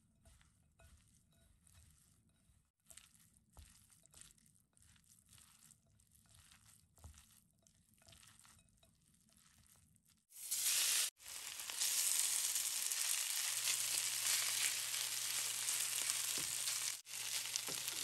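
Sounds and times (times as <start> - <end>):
shredded potato rustling in glass bowl: 0.4 - 10.6, 11.3 - 18.0.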